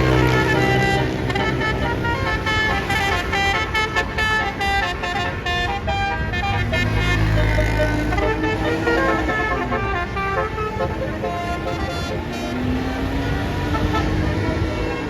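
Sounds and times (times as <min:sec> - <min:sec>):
bus engine rumble: 0:00.0 - 0:15.0
multi-tone bus horn melody: 0:00.0 - 0:15.0.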